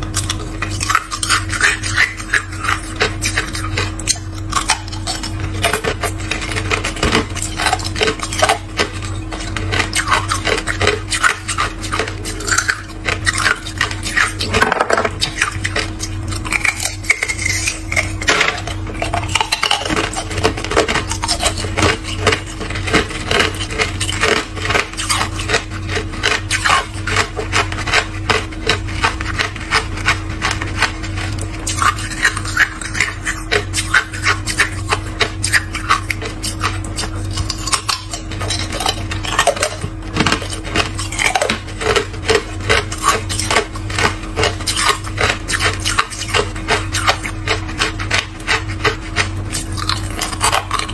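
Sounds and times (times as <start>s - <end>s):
ice crunching being chewed: 0.0s - 50.9s
steady low hum: 0.0s - 50.9s.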